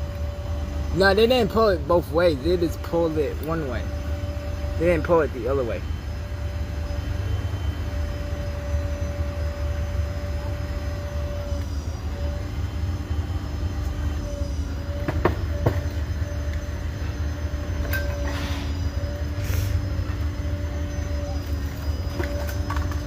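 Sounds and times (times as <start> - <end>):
heavy vehicle engine rumble: 0.0 - 23.0.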